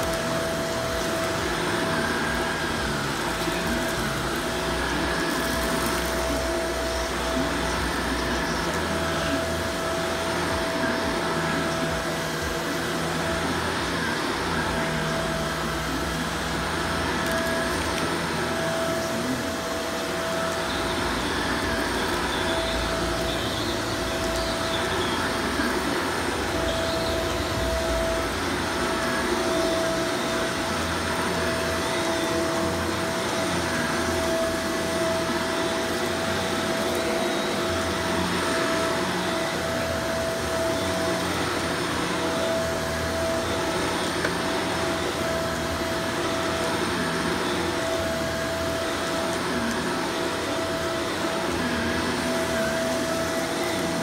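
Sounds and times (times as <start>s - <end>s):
vacuum cleaner running over carpet: 0.0s - 54.0s.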